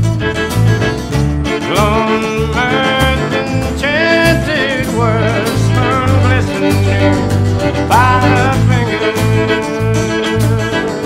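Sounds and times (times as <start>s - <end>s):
low bass notes: 0.0s - 11.0s
sliding melody line: 0.0s - 11.0s
strummed acoustic guitar: 0.0s - 11.0s.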